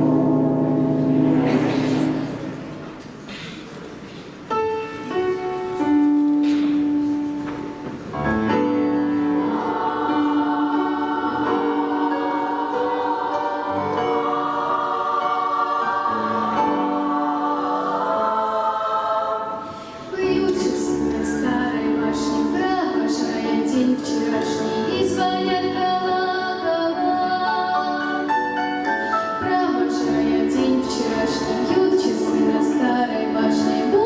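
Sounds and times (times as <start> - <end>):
choir singing held notes: 0.0 - 3.8, 6.8 - 28.3, 28.9 - 34.0.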